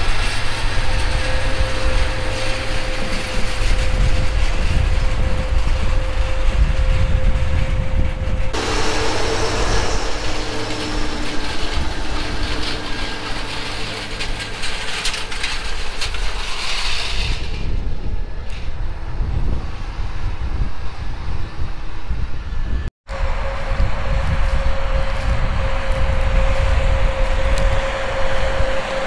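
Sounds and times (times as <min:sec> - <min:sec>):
tractor diesel engine rumbling: 0:00.0 - 0:18.5, 0:23.1 - 0:29.0.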